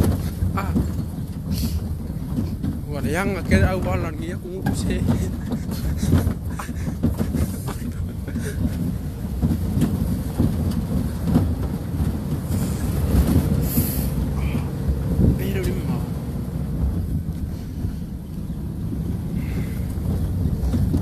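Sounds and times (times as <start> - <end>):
truck body knocking and rattling: 0.0 - 21.0
truck engine and tyres rumbling: 0.0 - 21.0.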